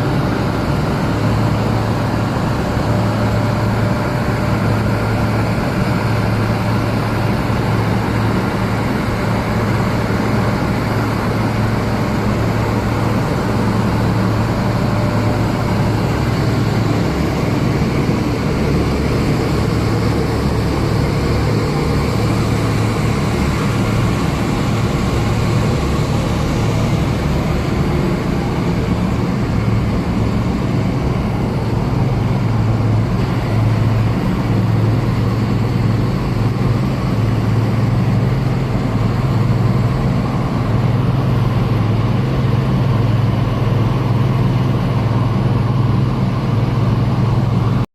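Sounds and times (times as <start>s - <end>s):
burner and blower rushing noise: 0.0s - 47.9s
low hum: 0.0s - 47.9s.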